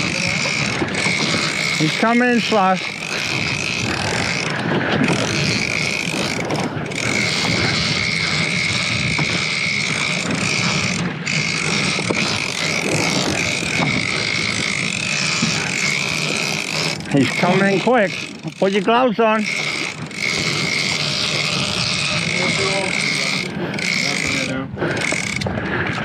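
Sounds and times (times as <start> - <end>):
boat engine: 0.0 - 26.0
fishing reel whining: 0.0 - 26.0.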